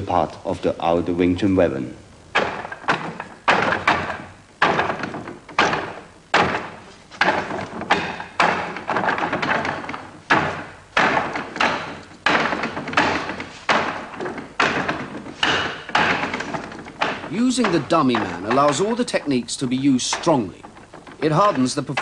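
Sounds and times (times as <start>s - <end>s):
hands knocking wooden dummy: 2.3s - 22.0s.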